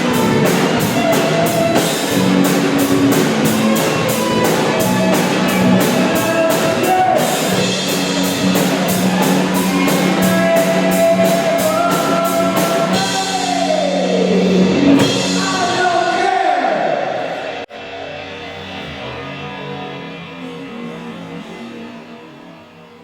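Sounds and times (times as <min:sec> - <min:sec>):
electric guitar: 0:00.0 - 0:15.9, 0:16.8 - 0:23.0
drum kit: 0:00.0 - 0:21.2.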